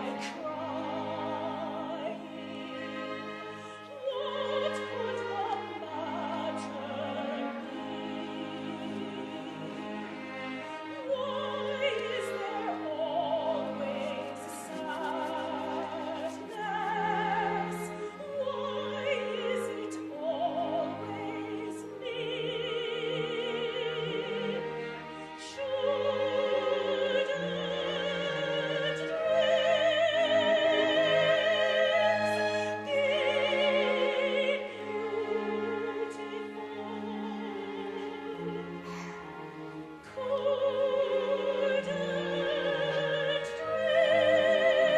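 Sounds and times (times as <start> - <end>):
operatic singing with vibrato: 0.0 - 44.9
orchestral strings: 0.0 - 44.9.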